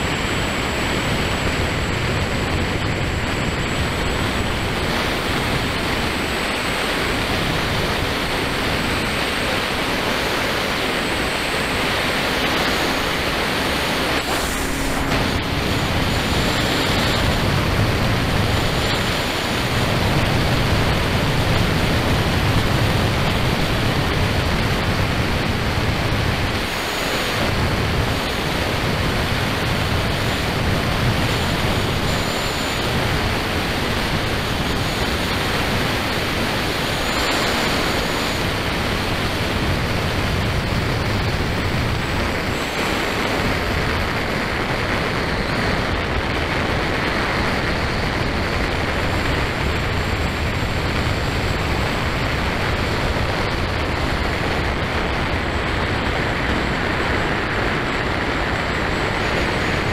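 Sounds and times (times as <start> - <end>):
motorcycle road noise: 0.0 - 59.9
wind rushing: 0.0 - 59.9.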